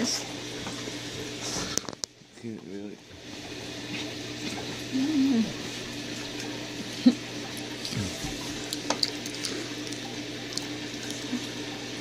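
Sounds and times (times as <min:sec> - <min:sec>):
aquarium water trickling: 0:00.0 - 0:12.0.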